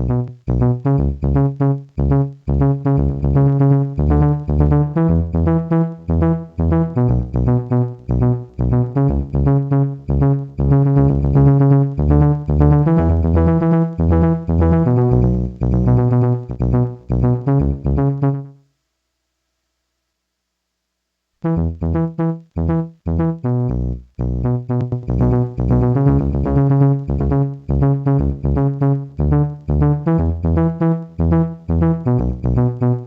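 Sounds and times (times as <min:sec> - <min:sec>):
steady bass line: 0:00.0 - 0:18.6, 0:21.4 - 0:33.0
synthesizer notes with delay: 0:00.0 - 0:18.6, 0:21.4 - 0:33.0.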